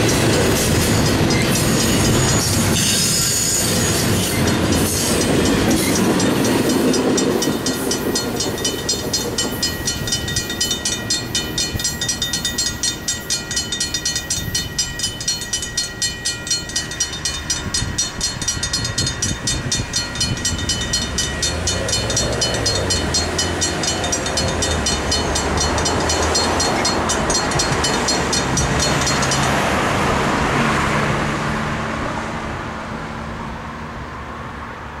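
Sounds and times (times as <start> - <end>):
railroad crossing bells ringing: 0.0 - 30.9
rail noise of passing train: 0.0 - 35.0
road traffic: 0.0 - 35.0.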